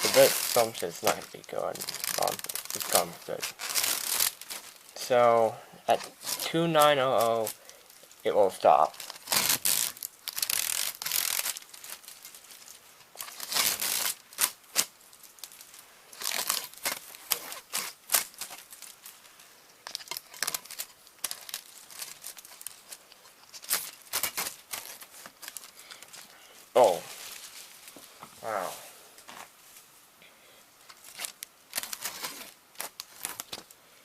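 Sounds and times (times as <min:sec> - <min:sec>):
tape crinkling and rustling: 0:00.0 - 0:30.0, 0:30.8 - 0:33.8.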